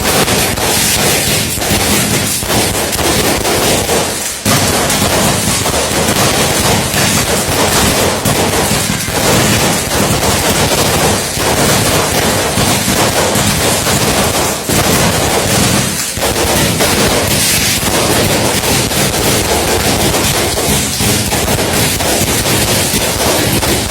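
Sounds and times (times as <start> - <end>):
firecrackers crackling: 0.0 - 23.9.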